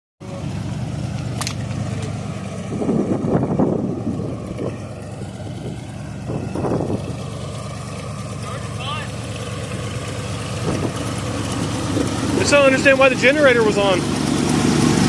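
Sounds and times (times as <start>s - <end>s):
car engine running: 0.2s - 15.0s.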